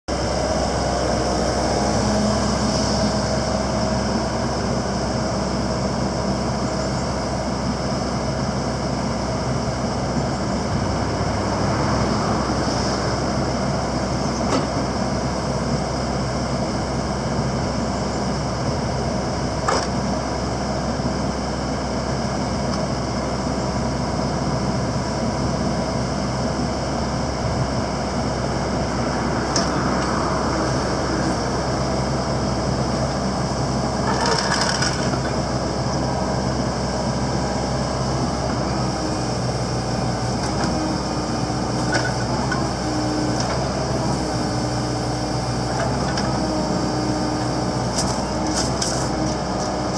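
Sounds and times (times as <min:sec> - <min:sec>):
excavator engine and hydraulics: 0:00.1 - 0:49.9.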